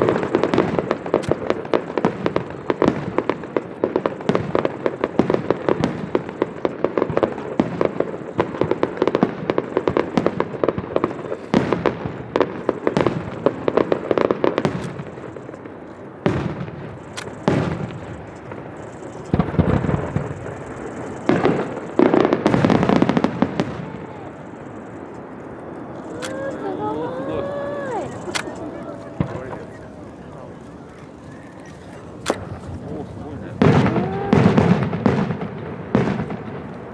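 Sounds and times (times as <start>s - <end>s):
fireworks bangs with low rumble: 0.0s - 36.9s
fireworks crackling: 0.0s - 36.9s.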